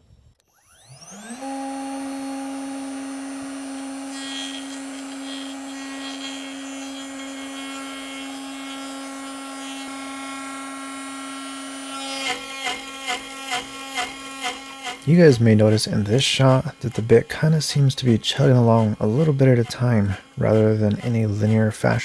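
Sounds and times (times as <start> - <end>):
router spindle high whine: 0.4 - 22.0
hiss of cutting wood: 1.0 - 9.2, 11.9 - 22.0.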